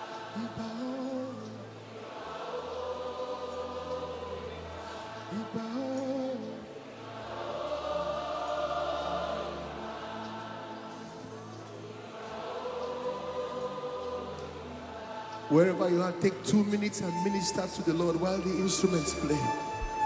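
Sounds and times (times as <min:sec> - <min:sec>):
choir and congregation singing: 0:00.0 - 0:20.0
sustained instrumental backing: 0:00.0 - 0:20.0.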